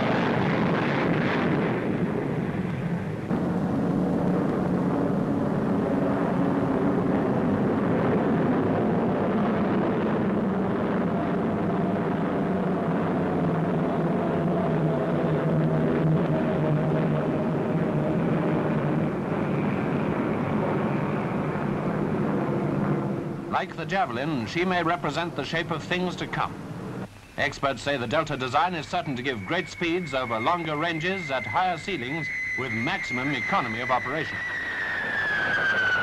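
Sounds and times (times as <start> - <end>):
aircraft engines droning: 0.0 - 36.0.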